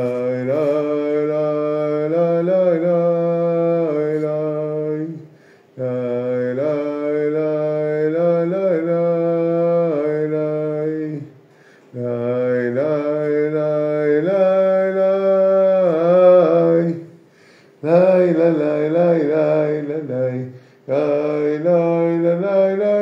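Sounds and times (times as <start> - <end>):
man chanting wordless melody: 0.0 - 17.2, 17.8 - 23.0.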